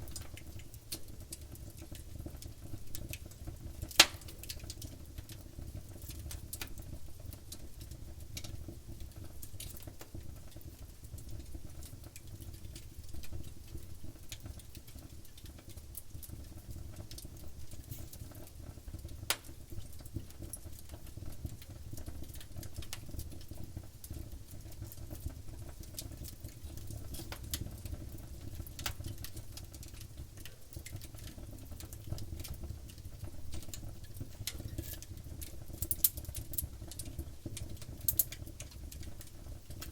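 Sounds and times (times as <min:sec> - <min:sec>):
campfire flames rumbling: 0:00.0 - 0:39.9
fire crackling and popping: 0:00.0 - 0:39.9.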